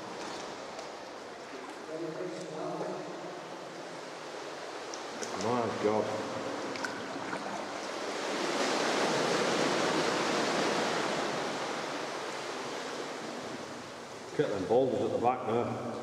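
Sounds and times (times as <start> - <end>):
sea water surging in a cave: 0.0 - 16.0.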